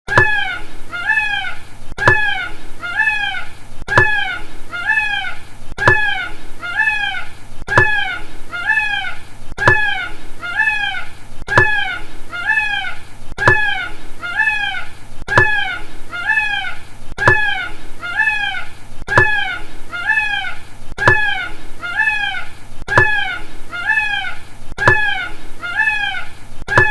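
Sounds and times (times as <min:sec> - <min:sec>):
peacock wailing cries: 0:00.1 - 0:26.9.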